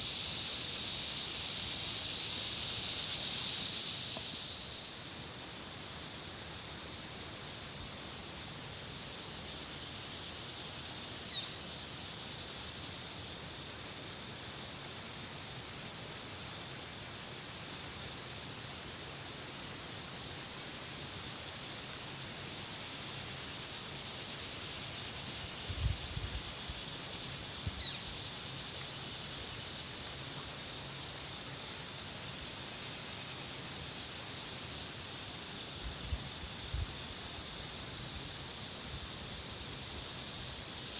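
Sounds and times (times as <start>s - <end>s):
insects buzzing trill: 0.0s - 40.9s.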